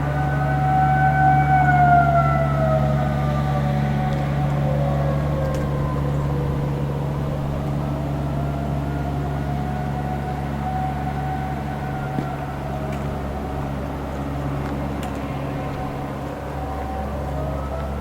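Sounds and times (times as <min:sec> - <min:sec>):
distant warning siren: 0:00.0 - 0:18.0
loud low hum: 0:00.0 - 0:18.0.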